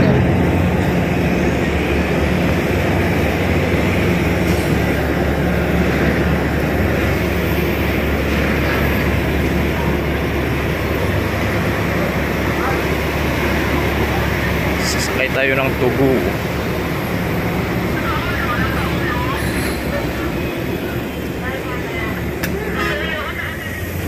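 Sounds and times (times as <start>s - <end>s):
constant hum: 0.0s - 24.0s
ship machinery drone: 0.0s - 24.0s.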